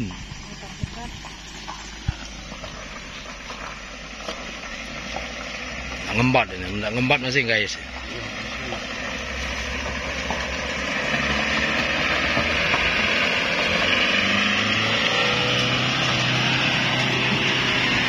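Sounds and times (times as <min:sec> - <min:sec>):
pickup truck engine under load: 0:00.0 - 0:18.0.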